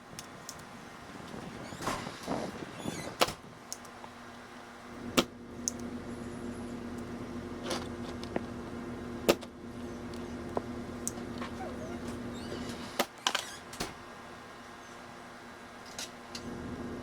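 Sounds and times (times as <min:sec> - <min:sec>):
electric hum of desoldering equipment: 0:00.0 - 0:17.0.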